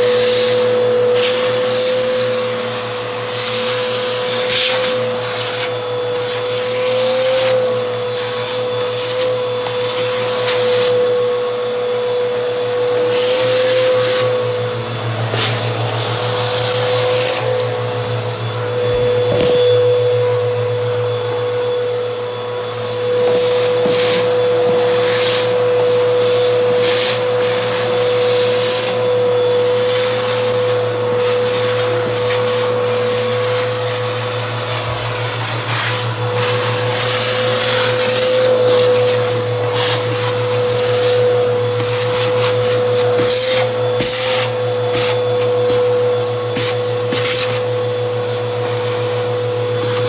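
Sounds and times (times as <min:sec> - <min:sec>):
vacuum cleaner whine: 0:00.0 - 0:50.0.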